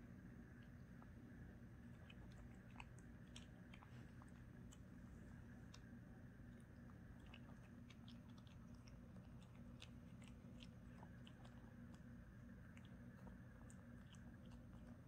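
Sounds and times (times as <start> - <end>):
steady low hum: 0.0 - 15.0
kitten crunching dry kibble: 0.6 - 15.0.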